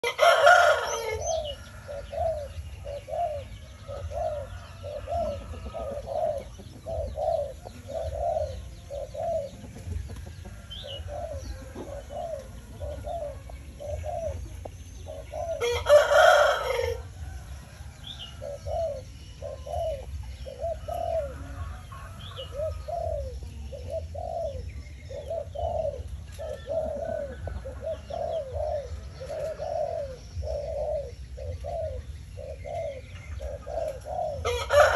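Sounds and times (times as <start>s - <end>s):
doves cooing: 0.0s - 34.9s
small birds chirping faintly: 0.0s - 34.9s.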